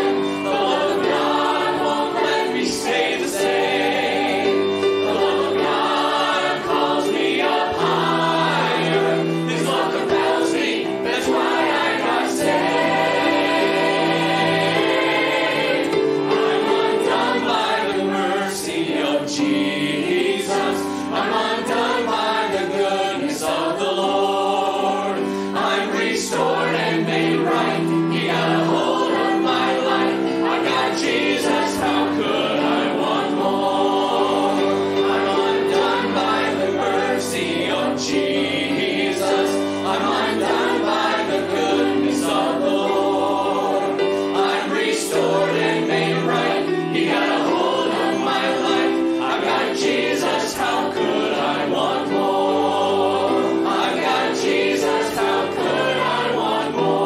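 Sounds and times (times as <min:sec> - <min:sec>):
lead singers: 0:00.0 - 0:57.0
mixed choir singing gospel: 0:00.0 - 0:57.0.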